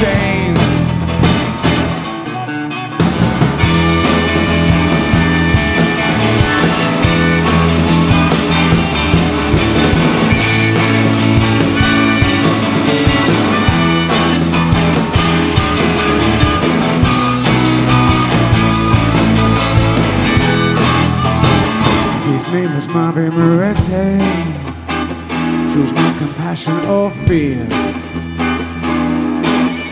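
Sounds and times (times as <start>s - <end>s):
steady drum beat: 0.0s - 2.1s, 3.0s - 22.4s, 23.7s - 29.9s
bass guitar: 0.0s - 29.9s
electric guitars: 0.0s - 29.9s.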